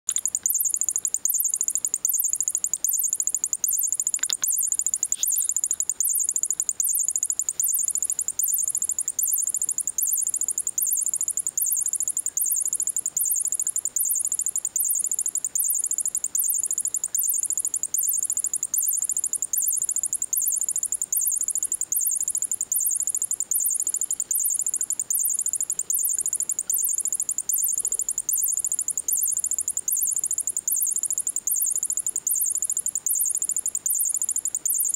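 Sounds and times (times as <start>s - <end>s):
electronic toy chirping: 0.1s - 34.9s.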